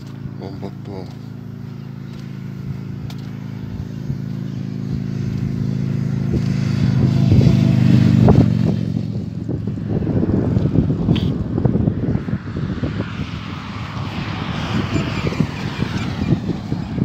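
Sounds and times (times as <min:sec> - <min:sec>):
motorcycle engine passing: 0:00.0 - 0:17.0.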